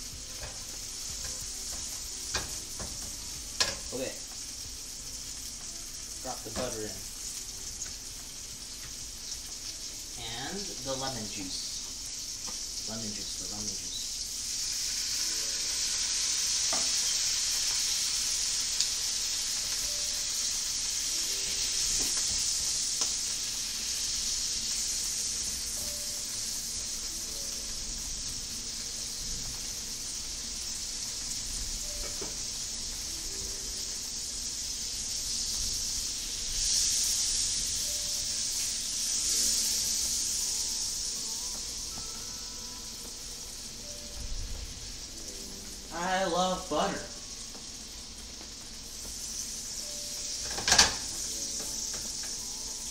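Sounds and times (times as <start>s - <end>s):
sauce sizzling in frying pan: 0.0s - 52.9s.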